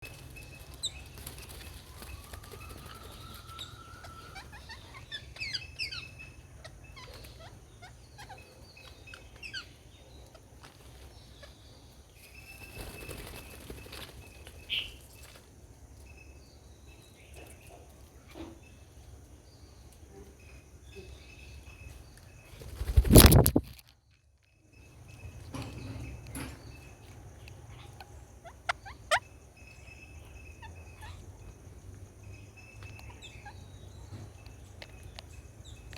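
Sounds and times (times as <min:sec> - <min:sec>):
birds chirping: 0:00.0 - 0:23.8, 0:24.6 - 0:35.9.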